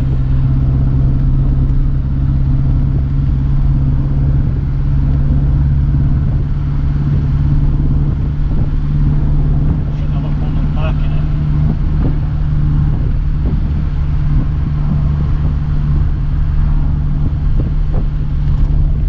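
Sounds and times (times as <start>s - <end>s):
car engine cruising: 0.0s - 19.0s
road rumble: 0.0s - 19.0s.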